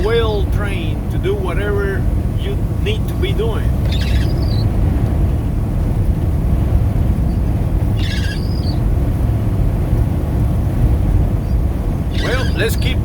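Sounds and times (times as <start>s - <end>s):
vehicle rumble from inside: 0.0s - 13.0s.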